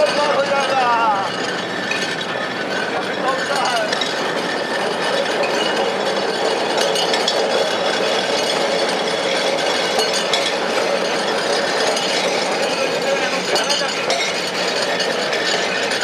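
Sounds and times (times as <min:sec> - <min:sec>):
tram rattling along track: 0:00.0 - 0:16.0.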